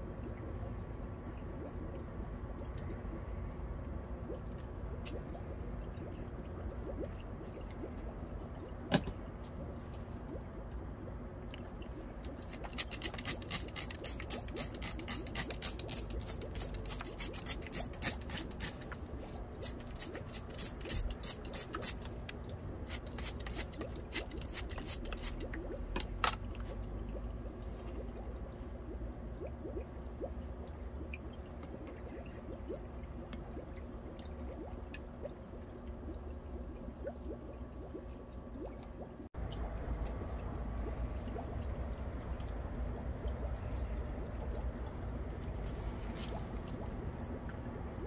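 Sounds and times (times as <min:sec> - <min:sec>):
steady low hum: 0:00.0 - 0:48.0
water dripping and trickling: 0:00.0 - 0:48.0.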